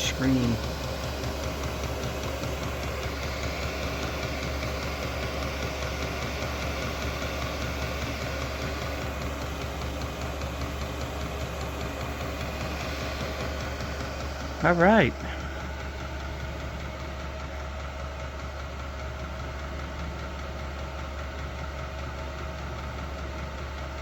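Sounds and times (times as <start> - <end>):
diesel air heater humming: 0.0 - 24.0.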